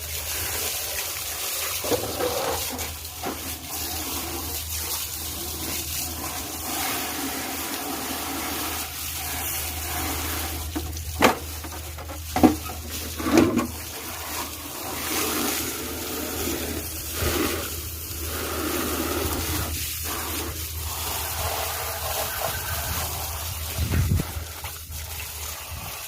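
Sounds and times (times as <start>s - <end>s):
water running: 0.0s - 26.0s.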